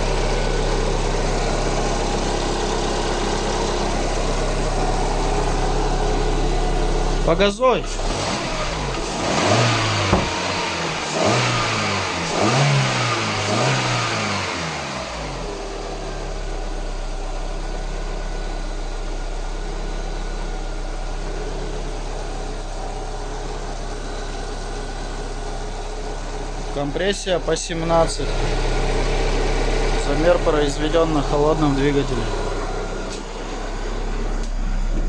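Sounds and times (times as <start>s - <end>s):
car engine revving and idling: 0.0s - 35.0s.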